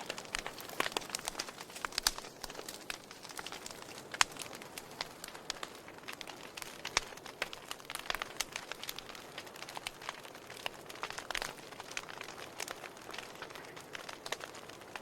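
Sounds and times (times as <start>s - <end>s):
fire crackling and popping: 0.0s - 15.0s
soft steady hiss: 0.0s - 15.0s.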